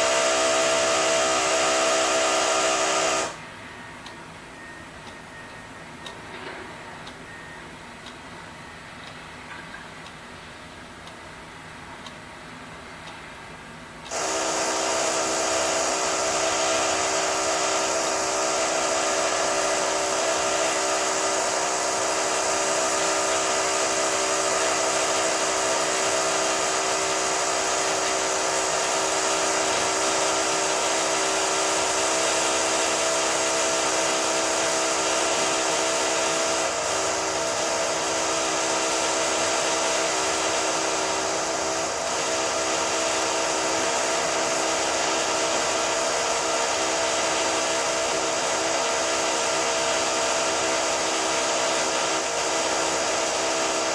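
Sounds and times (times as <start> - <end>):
power drill whining: 0.0 - 3.4, 14.1 - 53.9.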